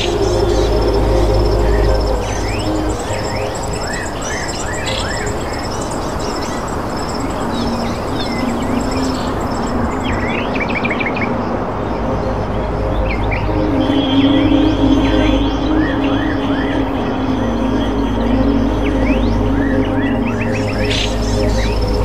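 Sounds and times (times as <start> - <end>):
small birds chirping: 0.0 - 11.3, 12.2 - 22.0.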